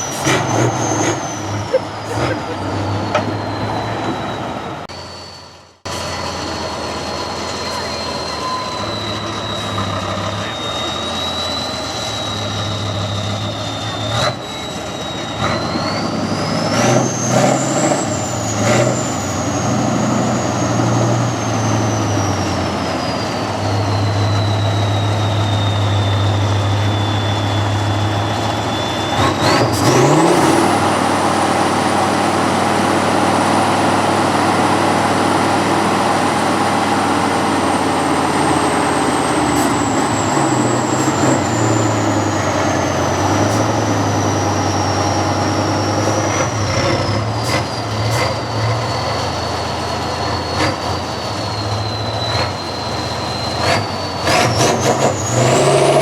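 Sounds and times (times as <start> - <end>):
high turbo whistle: 0.0 - 56.0
truck diesel engine under load: 0.0 - 56.0.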